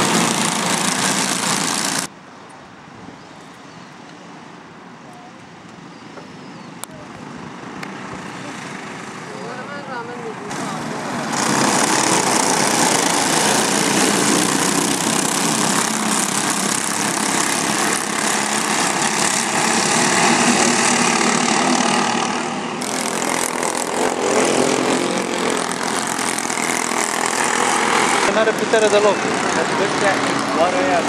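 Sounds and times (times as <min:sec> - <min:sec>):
go-kart engine drone: 0:00.0 - 0:02.1, 0:06.8 - 0:31.0.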